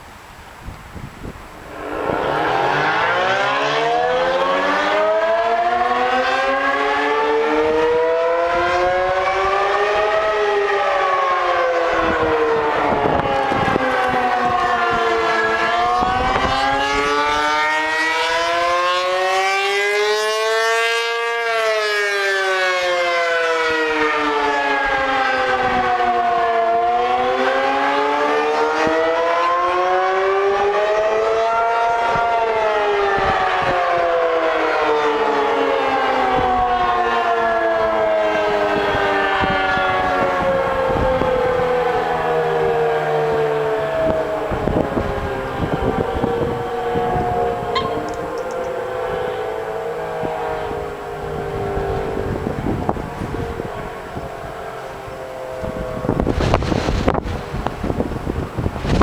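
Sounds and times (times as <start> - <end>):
wind buffeting microphone: 0.0 - 17.6, 23.6 - 29.3, 31.9 - 59.0
wailing warning siren: 0.0 - 59.0.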